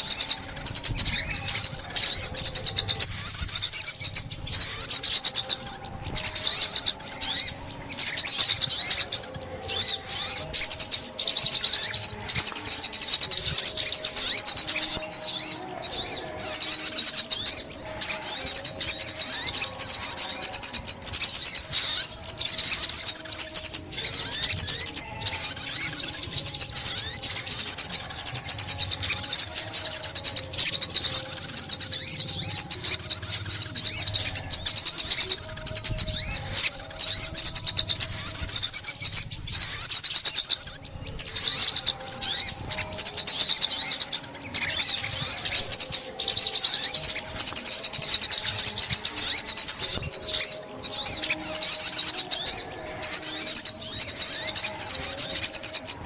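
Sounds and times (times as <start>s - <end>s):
bird twittering and trilling: 0.0s - 56.0s.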